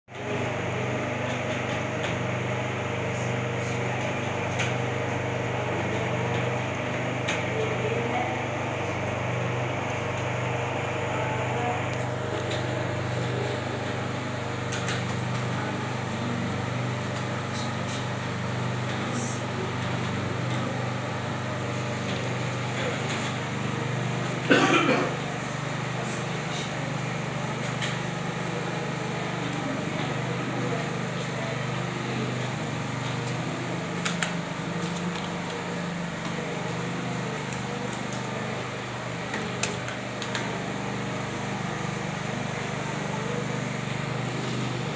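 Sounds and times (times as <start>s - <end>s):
hum of fans and machines: 0.1s - 44.9s.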